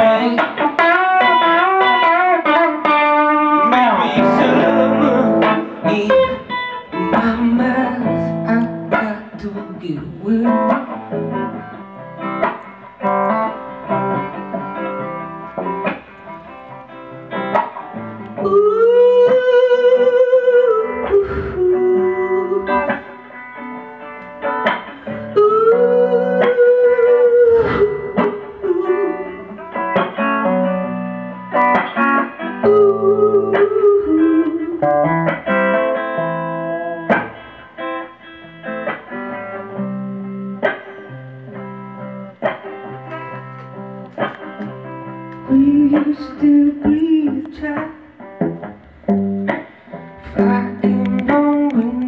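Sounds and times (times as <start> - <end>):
electric guitar playing: 0.0 - 52.0.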